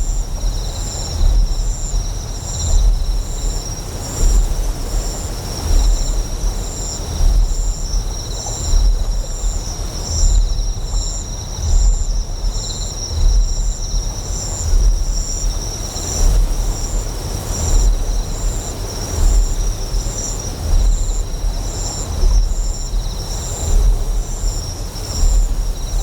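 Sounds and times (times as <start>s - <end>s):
flowing water hiss: 0.0s - 26.0s
generator deep hum: 0.0s - 26.0s
high insect chirping: 0.0s - 26.0s.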